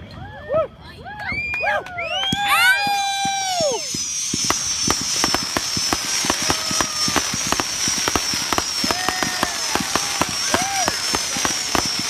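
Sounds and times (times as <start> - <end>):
high-pitched whistle: 1.3 - 12.0
fireworks crackling and popping: 2.0 - 12.0.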